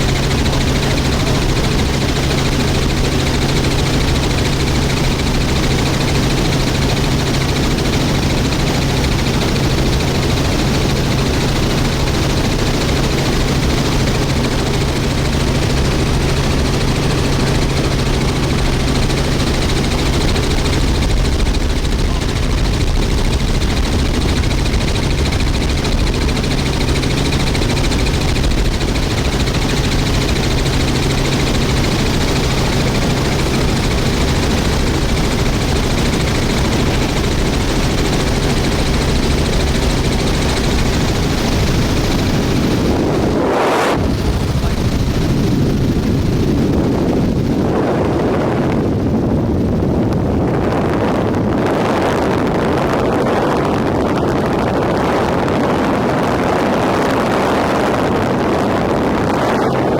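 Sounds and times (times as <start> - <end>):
helicopter engine and rotor: 0.0 - 59.9
wind on microphone: 0.0 - 59.9.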